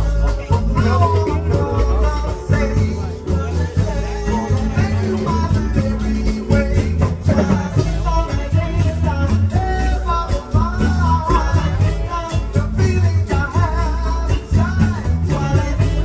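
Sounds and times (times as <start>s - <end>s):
upbeat song with singing and band: 0.0s - 16.0s.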